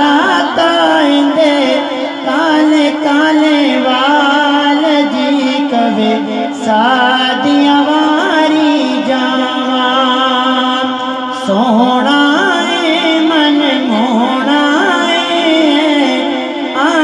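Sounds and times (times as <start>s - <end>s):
man singing through microphones: 0.0s - 17.0s.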